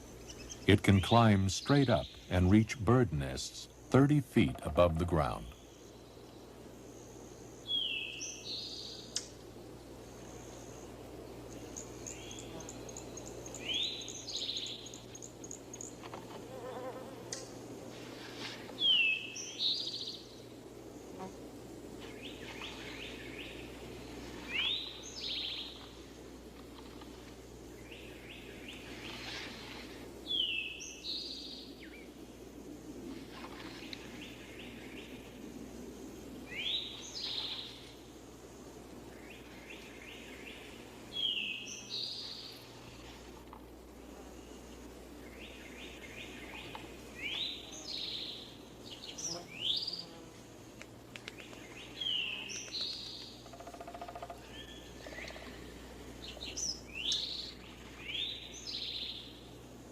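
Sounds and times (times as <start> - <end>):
low insect buzz: 3.4 - 59.9.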